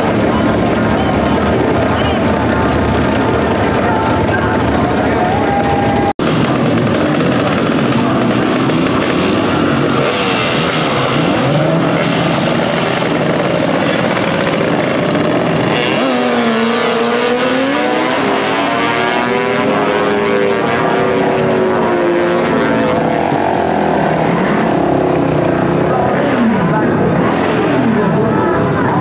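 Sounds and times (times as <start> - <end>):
drag bike engine revving: 0.0 - 29.0
motorcycle revving: 0.0 - 29.0.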